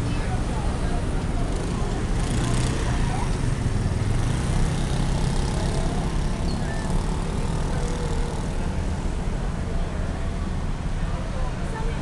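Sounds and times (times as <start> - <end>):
low rumble of road vehicles: 0.0 - 12.0.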